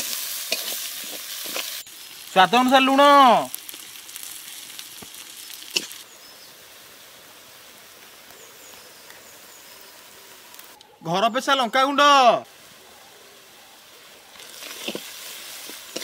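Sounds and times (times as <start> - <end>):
onions sizzling in oil: 0.0 - 10.8, 12.4 - 16.0.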